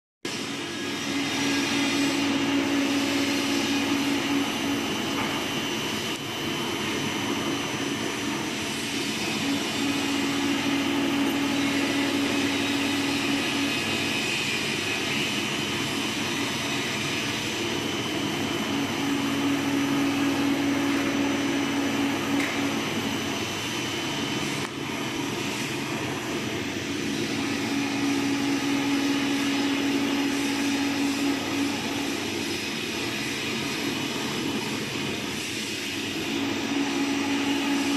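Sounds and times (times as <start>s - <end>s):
mixer motor and gearbox hum: 0.3s - 37.9s.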